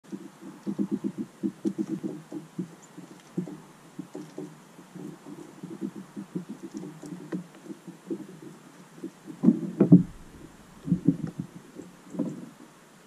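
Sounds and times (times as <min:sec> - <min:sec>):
bird pecking plastic feeder: 0:00.1 - 0:12.5.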